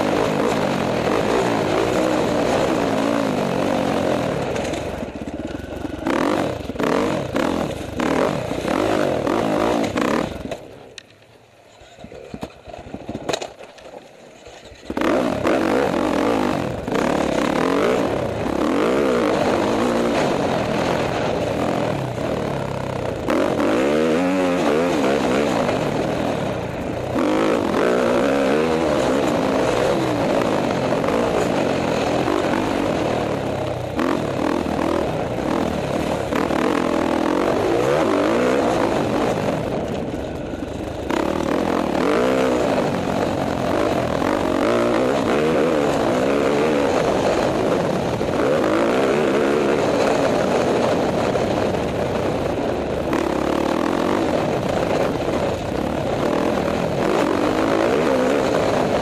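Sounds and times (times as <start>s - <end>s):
dirt bike engine revving: 0.0s - 10.7s, 14.8s - 59.0s.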